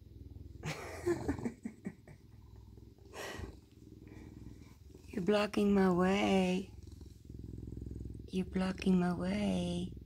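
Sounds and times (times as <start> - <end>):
bobcat purring: 0.0 - 10.0.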